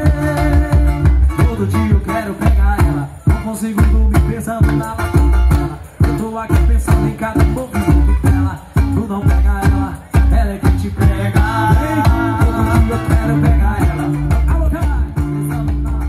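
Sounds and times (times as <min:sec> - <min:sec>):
cajon beat: 0:00.0 - 0:16.0
person singing: 0:00.0 - 0:16.0.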